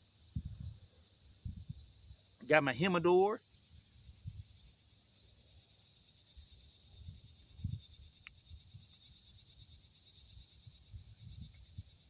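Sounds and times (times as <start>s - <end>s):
insects chirping: 0.1s - 12.0s.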